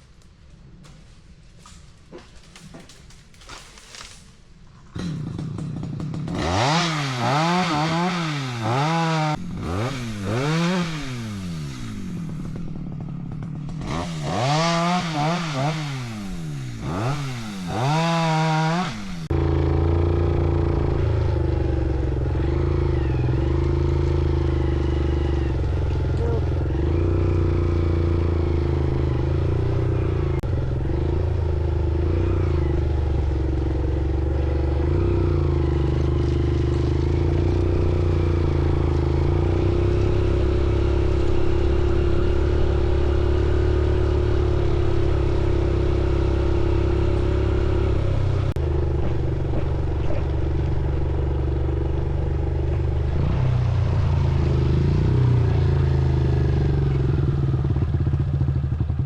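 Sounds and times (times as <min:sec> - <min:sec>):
motorcycle engine running: 0:04.8 - 0:59.0.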